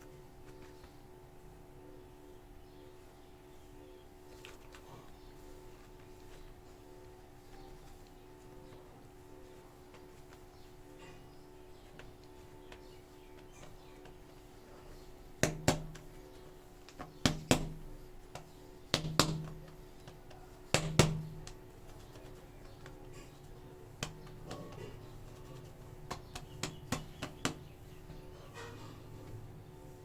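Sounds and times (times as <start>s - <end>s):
soft background music: 0.0s - 30.0s.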